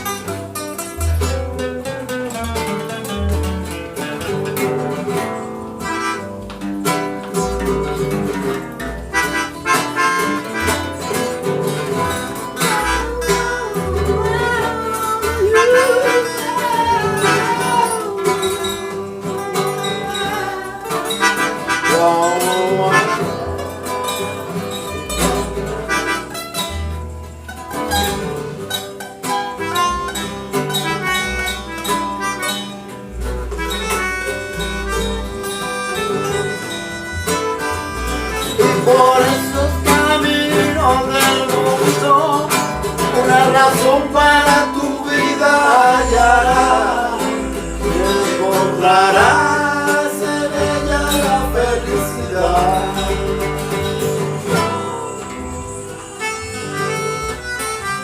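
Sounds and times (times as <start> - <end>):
deep bass notes: 0.0 - 28.9, 29.6 - 58.0
plucked guitars: 0.0 - 58.0
wavering lead melody: 0.0 - 58.0.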